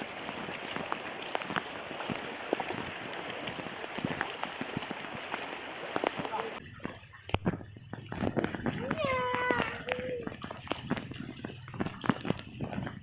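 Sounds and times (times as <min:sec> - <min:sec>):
heavy rain falling: 0:00.0 - 0:06.6, 0:08.1 - 0:13.0
water drips ticking on surfaces: 0:00.0 - 0:13.0.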